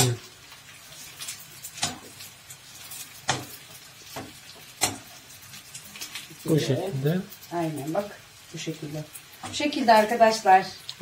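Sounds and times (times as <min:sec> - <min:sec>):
pasta sizzling in oil: 0:00.0 - 0:11.0.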